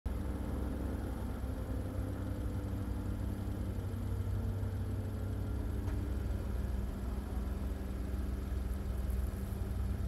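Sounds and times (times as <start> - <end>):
low engine rumble: 0.1 - 10.0
steady hum tones: 0.1 - 10.0.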